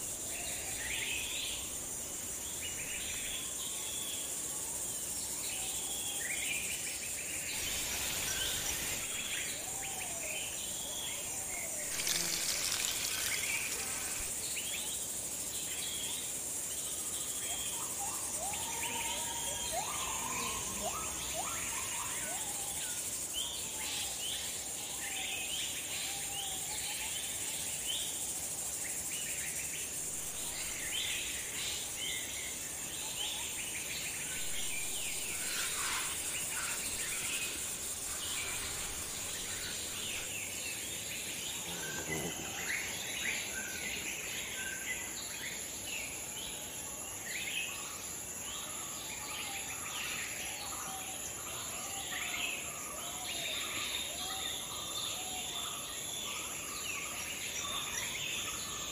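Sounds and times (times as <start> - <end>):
insect drone: 0.0 - 58.9.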